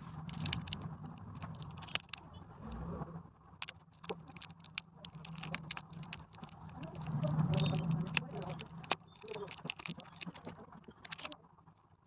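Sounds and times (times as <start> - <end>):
plastic packaging crinkling: 0.3 - 2.3, 3.6 - 11.4.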